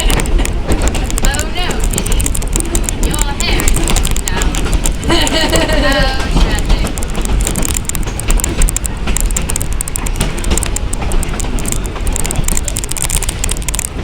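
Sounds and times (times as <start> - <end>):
train running gear rumble: 0.0 - 14.0
wheels clicking and rattling: 0.0 - 14.0.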